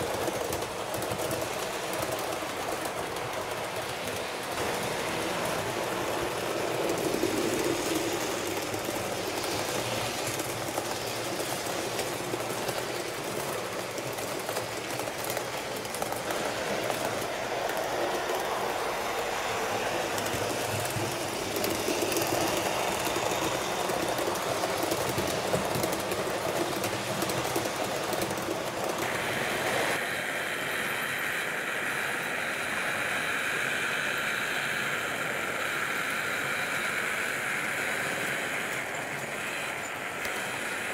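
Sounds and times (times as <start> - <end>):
model train running on track: 0.0 - 40.9.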